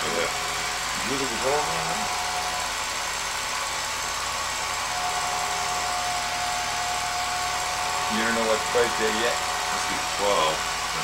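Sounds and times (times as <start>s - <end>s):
film projector motor whirring: 0.0s - 11.0s.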